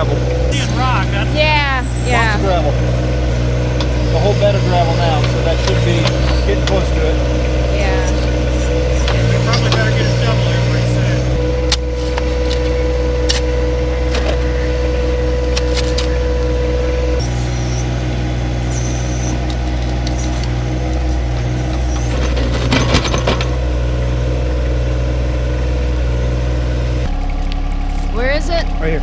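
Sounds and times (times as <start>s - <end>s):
steady whine: 0.0s - 29.0s
tractor diesel engine running: 0.0s - 29.0s.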